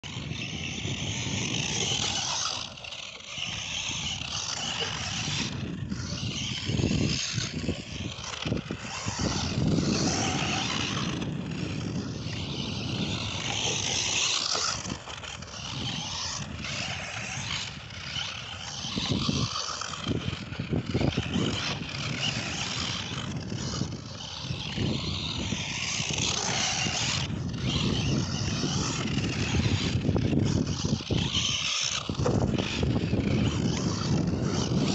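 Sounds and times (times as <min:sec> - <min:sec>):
radio-controlled car motor running: 0:00.0 - 0:34.9
tyres scrabbling on grit: 0:00.0 - 0:34.9.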